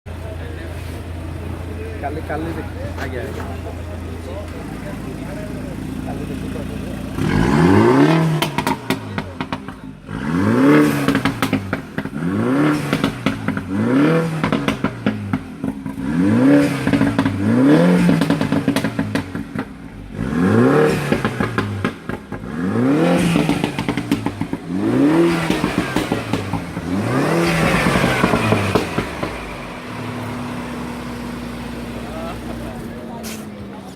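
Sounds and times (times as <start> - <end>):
car engine revving: 0.1 - 33.9
exhaust pops and crackles: 1.4 - 33.9.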